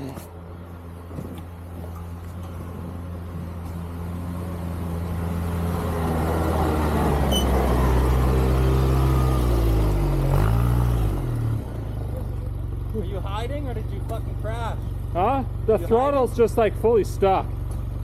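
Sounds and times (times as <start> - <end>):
snow vehicle engine running: 0.0 - 18.0.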